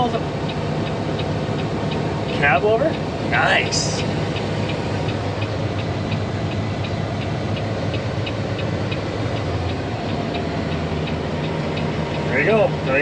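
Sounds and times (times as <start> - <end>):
diesel truck engine idling: 0.0 - 13.0
light ticking: 0.0 - 13.0.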